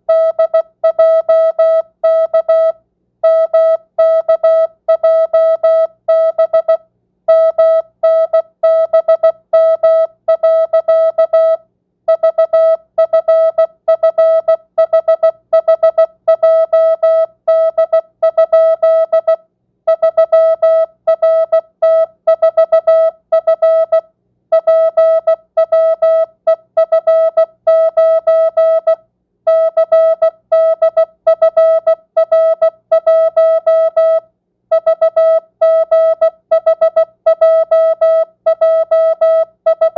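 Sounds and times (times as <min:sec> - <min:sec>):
morse code beeps: 0:00.1 - 0:24.0, 0:24.6 - 0:39.9.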